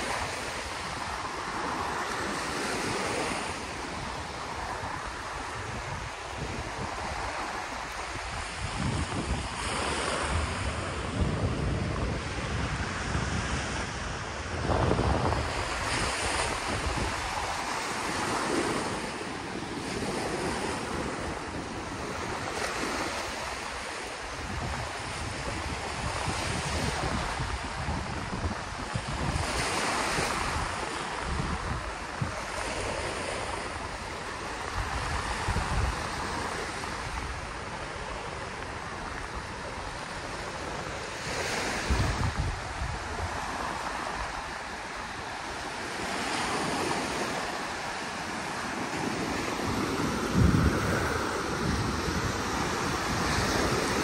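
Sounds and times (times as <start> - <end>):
sea waves breaking on shore: 0.0 - 54.0
wind gusting against microphone: 0.0 - 54.0.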